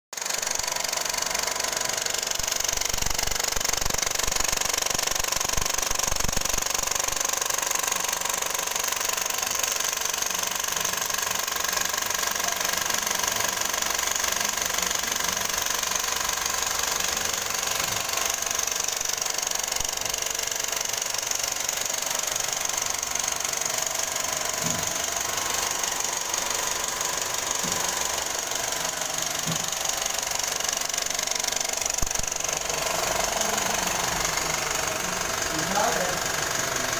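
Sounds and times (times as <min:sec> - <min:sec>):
film projector running: 0:00.1 - 0:36.9.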